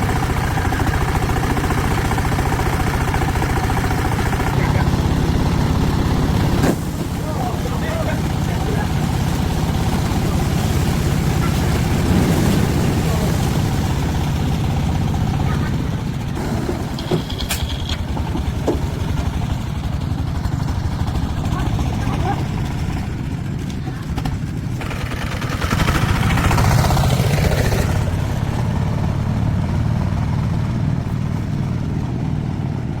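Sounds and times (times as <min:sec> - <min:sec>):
farm vehicle engine running: 0:00.0 - 0:33.0.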